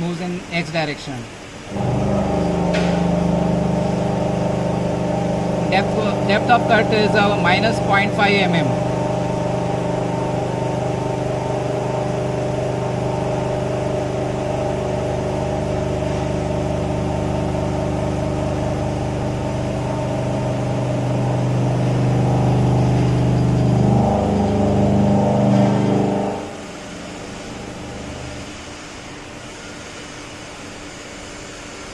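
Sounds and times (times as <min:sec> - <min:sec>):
coolant hiss: 0:00.0 - 0:31.9
milling machine cutting drone: 0:01.6 - 0:28.7.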